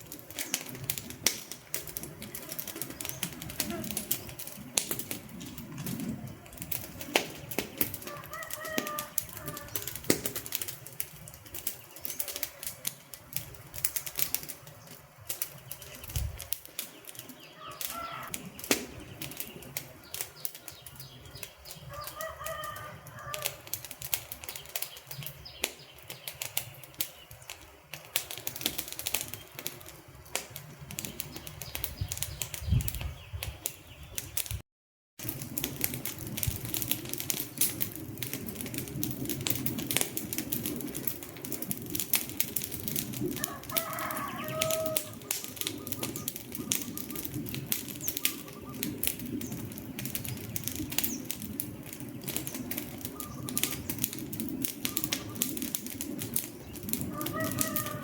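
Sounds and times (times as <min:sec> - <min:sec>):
sharp pops and snaps: 0:00.0 - 0:22.1, 0:22.8 - 0:34.6, 0:35.2 - 0:58.0
wood fire crackling: 0:00.0 - 0:34.6, 0:35.2 - 0:58.0.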